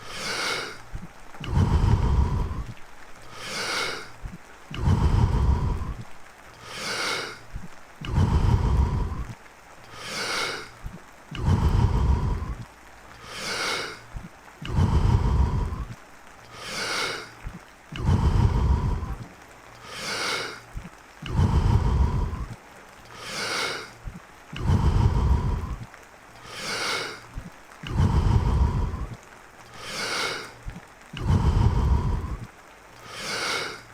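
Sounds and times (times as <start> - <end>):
man breathing forcefully: 0.0 - 29.2, 29.8 - 33.9
steady rain: 0.0 - 33.9.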